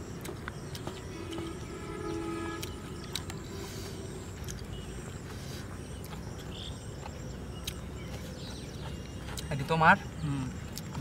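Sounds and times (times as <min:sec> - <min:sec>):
faint high insect-like tone: 0:00.0 - 0:11.0.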